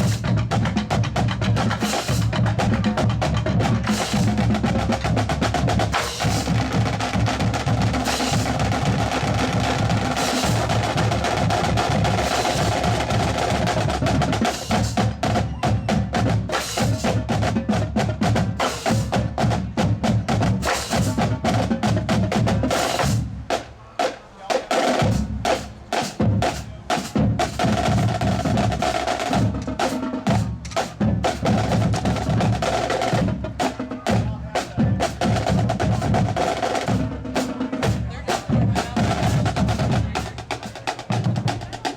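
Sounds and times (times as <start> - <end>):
band playing: 0.0 - 41.9
drums and percussion: 0.0 - 41.9.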